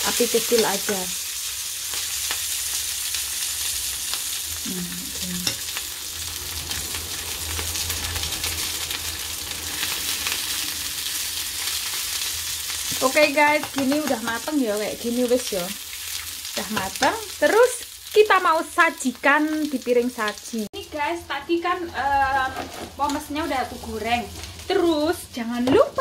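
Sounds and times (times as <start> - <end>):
fat crackling and popping: 0.0 - 18.5, 19.1 - 26.0
sausages sizzling in a pan: 0.0 - 26.0.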